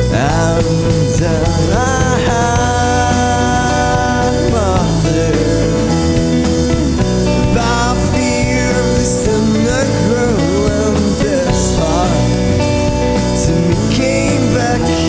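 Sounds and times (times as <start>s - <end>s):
rock band playing: 0.0s - 15.0s
sliding lead melody: 0.0s - 15.0s.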